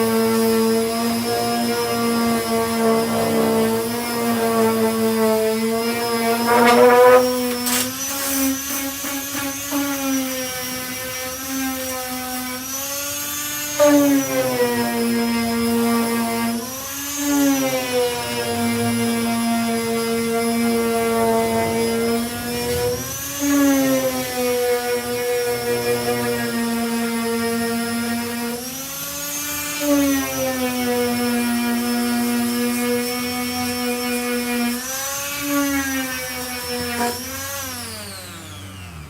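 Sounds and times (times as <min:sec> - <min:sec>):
power sander whine: 0:00.0 - 0:39.0.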